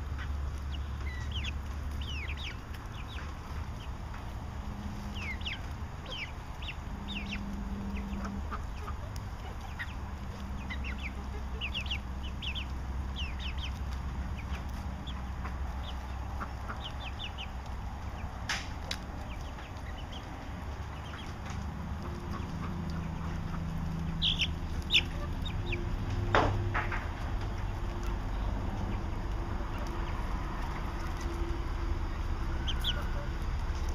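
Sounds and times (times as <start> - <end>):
chicks cheeping: 0.0 - 33.9.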